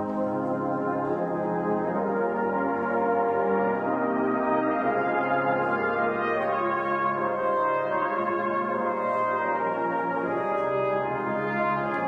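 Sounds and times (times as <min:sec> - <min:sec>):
brass band playing chords: 0:00.0 - 0:12.0.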